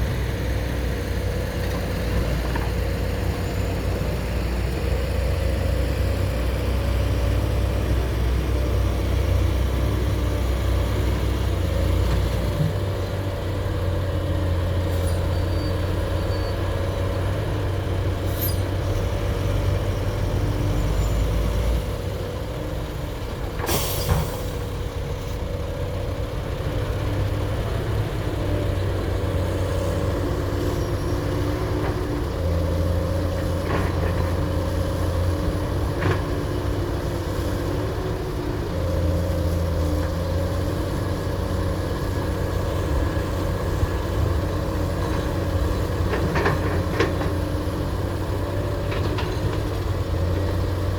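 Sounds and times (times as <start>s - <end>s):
excavator diesel engine drone: 0.0s - 50.9s.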